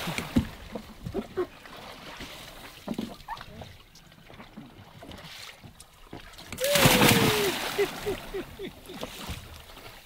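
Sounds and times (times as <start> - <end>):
water sloshing and lapping: 0.0 - 10.0.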